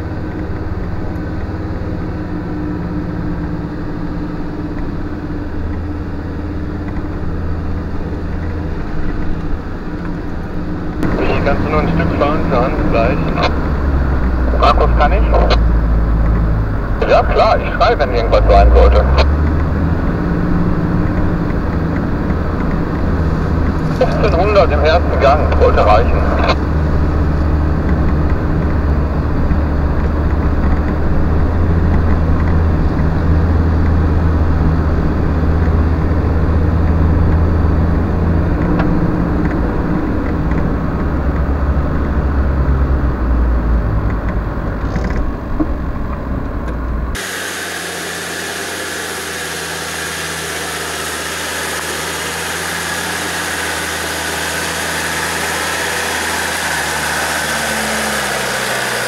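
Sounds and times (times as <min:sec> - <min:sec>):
engine droning inside cab: 0:00.0 - 0:59.0
engine running outside: 0:00.0 - 0:59.0.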